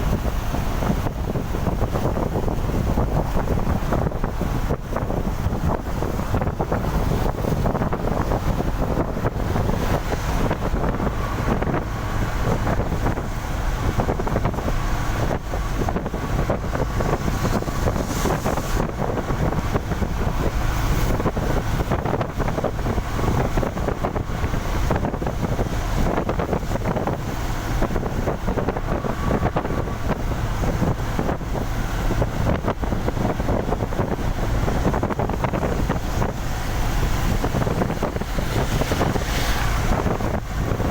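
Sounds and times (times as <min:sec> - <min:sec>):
vehicle travelling at speed: 0:00.0 - 0:40.9
wind buffeting microphone: 0:00.0 - 0:40.9.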